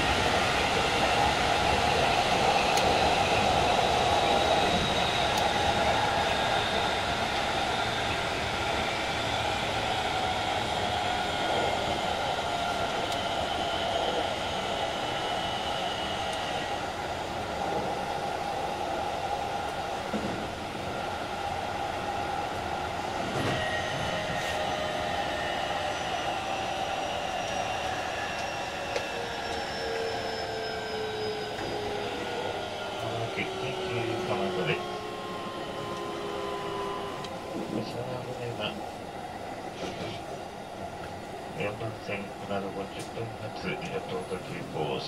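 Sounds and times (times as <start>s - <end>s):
traction motor whine: 0.0s - 37.8s
train wheels rumbling on rails: 0.0s - 45.0s.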